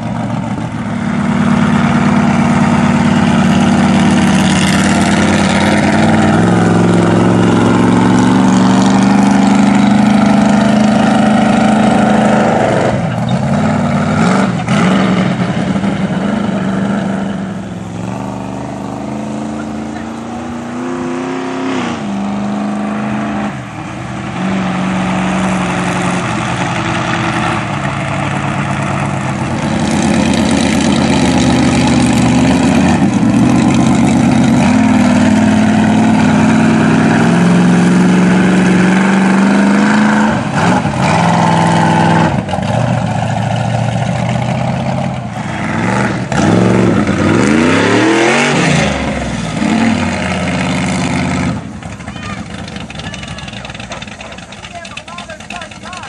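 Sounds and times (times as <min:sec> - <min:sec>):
truck engine revving hard: 0:00.0 - 0:56.0.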